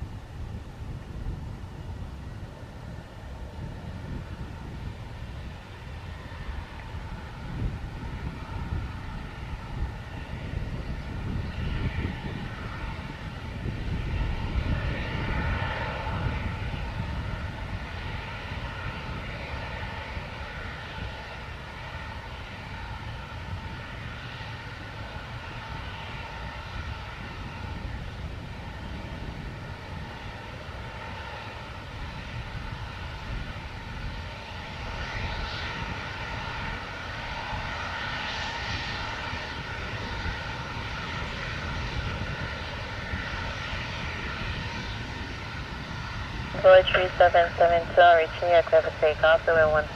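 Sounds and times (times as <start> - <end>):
aircraft engines whining: 0.0 - 49.9.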